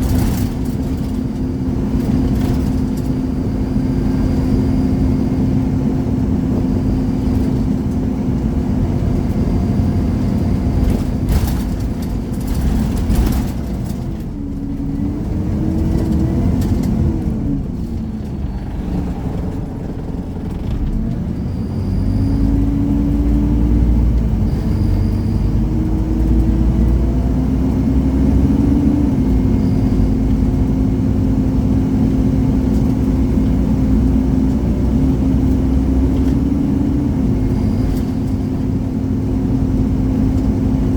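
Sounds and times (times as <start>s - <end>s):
bus engine whine: 0.0s - 40.9s.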